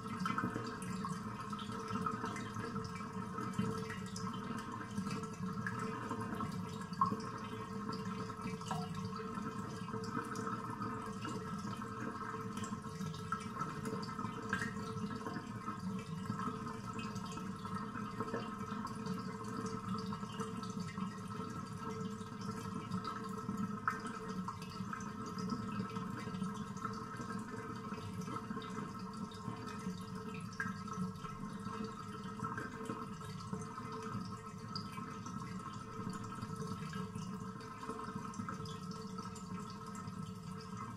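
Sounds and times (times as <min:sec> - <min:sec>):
light water drips: 0:00.0 - 0:40.9.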